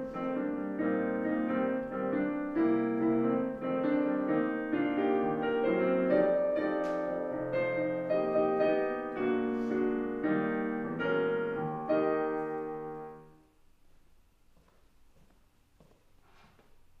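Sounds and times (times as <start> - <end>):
slow piano chords: 0.0 - 13.6.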